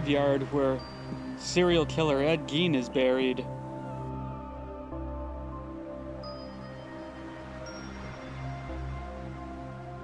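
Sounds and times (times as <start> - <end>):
ambient synth pads with drone: 0.0 - 10.0.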